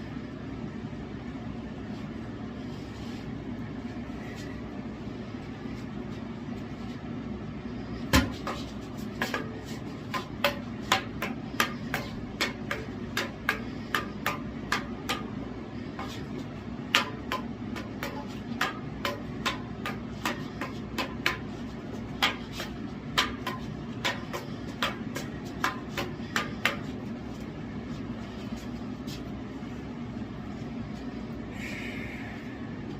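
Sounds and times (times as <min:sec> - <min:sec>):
low background hum: 0:00.0 - 0:32.9.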